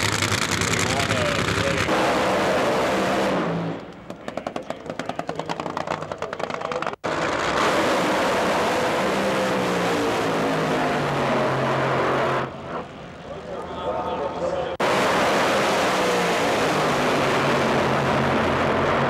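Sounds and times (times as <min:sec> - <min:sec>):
drag racing car engines: 0:00.0 - 0:19.0.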